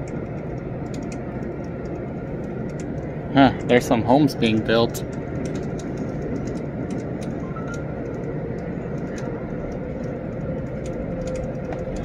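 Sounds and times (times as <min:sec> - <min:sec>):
faint clicks and rattles: 0:00.0 - 0:12.0
train car rumbling in motion: 0:00.0 - 0:12.0.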